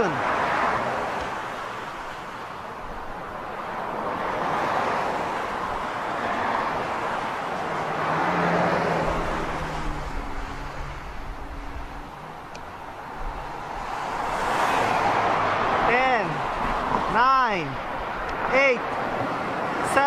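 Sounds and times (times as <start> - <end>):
passing vehicle engine hum: 0.0 - 17.2
road traffic: 0.0 - 20.0.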